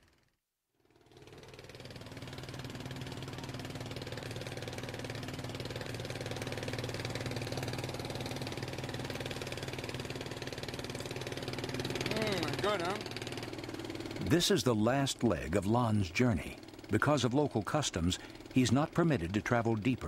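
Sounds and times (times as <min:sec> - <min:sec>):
boat engine running: 0:01.0 - 0:20.0.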